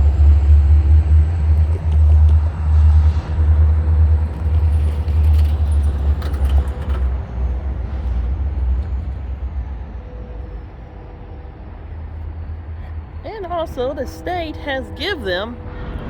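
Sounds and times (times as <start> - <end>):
loud deep rumble: 0.0 - 16.0.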